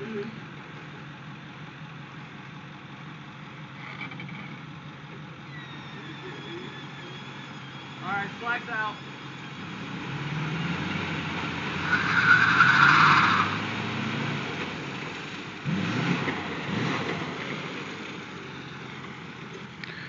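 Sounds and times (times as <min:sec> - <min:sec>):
truck engine under load: 0:00.0 - 0:20.0
tires spinning and skidding: 0:03.6 - 0:20.0.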